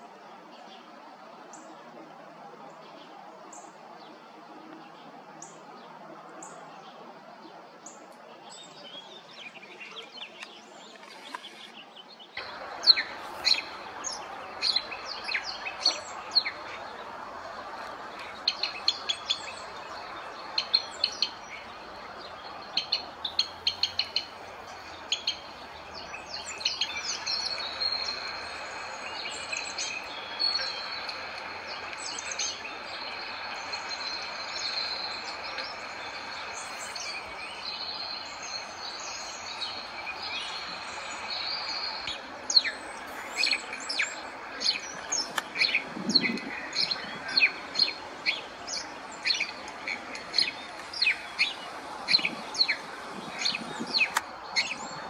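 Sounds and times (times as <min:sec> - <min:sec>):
outdoor background noise: 0:00.0 - 0:55.0
small birds chirping: 0:07.8 - 0:55.0.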